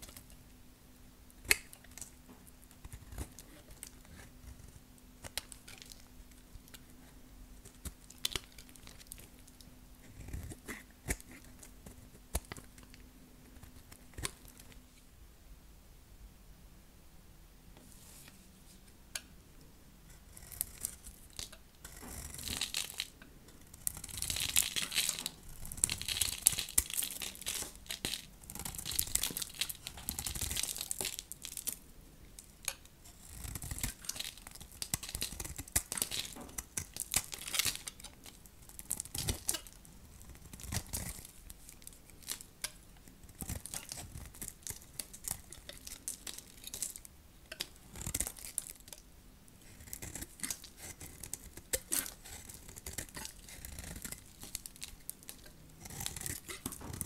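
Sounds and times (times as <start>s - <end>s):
knife carving hard soap: 1.4s - 14.8s, 20.1s - 57.0s.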